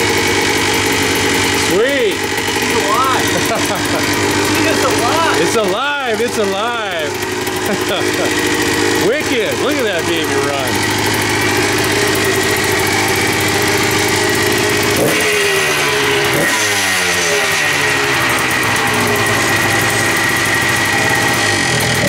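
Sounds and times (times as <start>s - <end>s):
two-stroke engine idling and revving: 0.0s - 22.0s.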